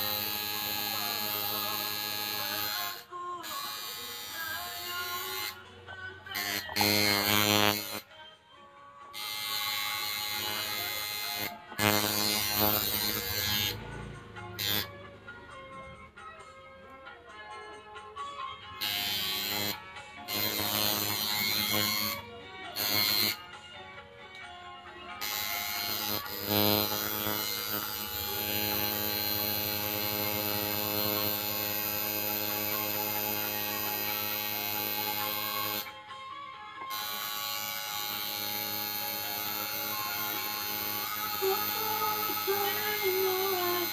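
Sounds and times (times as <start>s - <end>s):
tattoo machine buzzing: 0.0s - 8.1s, 9.2s - 13.9s, 14.6s - 15.0s, 18.7s - 23.5s, 25.1s - 36.0s, 36.9s - 43.9s.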